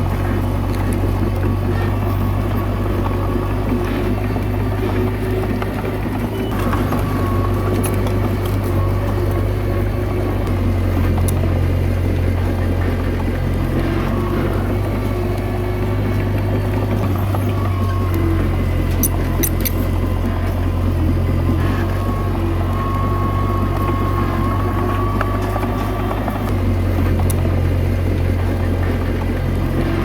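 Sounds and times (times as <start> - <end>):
bulldozer diesel engine drone: 0.0 - 30.0.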